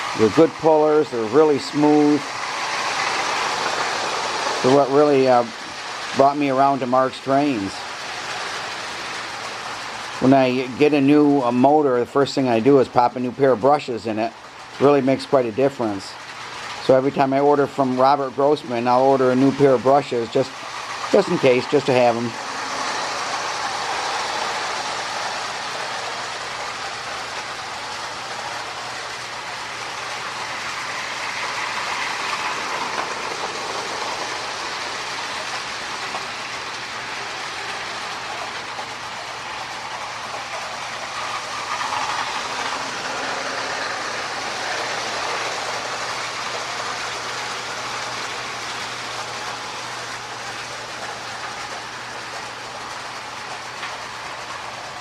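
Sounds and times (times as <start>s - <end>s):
toy train motor whirring: 0.0s - 6.3s, 7.4s - 10.4s, 18.8s - 55.0s
wheels clicking over rail joints: 0.0s - 55.0s.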